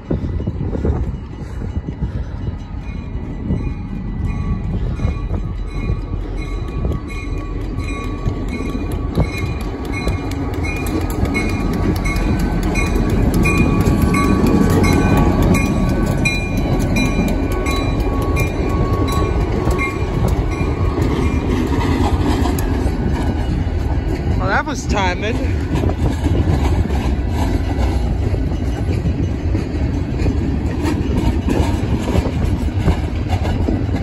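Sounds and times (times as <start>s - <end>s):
diesel locomotive engine: 0.0s - 34.0s
steel wheels rolling on rails: 0.0s - 34.0s.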